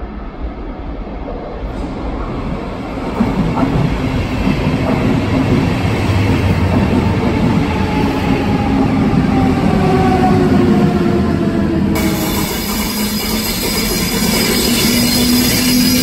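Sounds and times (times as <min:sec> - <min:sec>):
train wheels rumbling on rails: 0:00.4 - 0:16.0.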